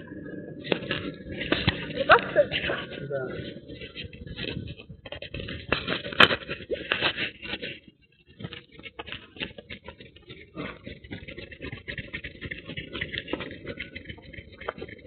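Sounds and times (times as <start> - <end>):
harness scratching and knocking on microphone: 0.0 - 15.0.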